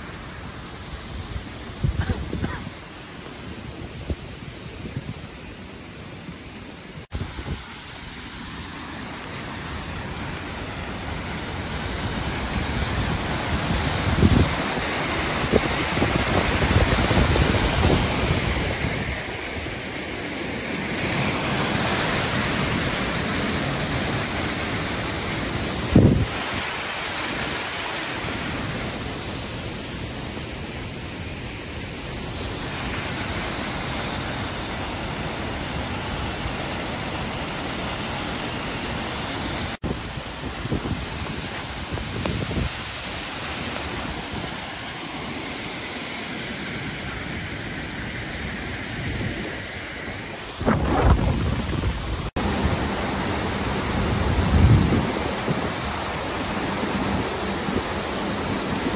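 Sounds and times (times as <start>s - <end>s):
running water: 0.0s - 58.9s
wind: 0.0s - 58.9s.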